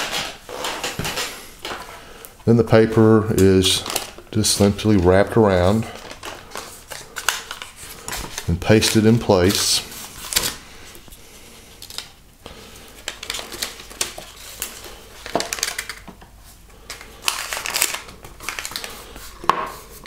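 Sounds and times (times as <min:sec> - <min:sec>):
paper crinkling and rustling: 0:02.7 - 0:11.2, 0:11.8 - 0:20.0.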